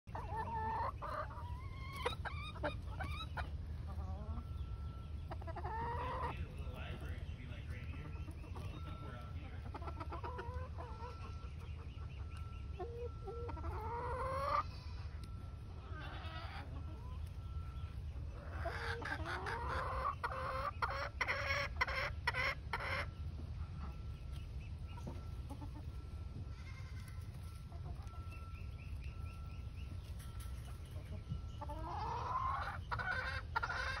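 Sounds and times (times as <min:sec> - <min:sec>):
hens clucking and calling: 0:00.1 - 0:34.0.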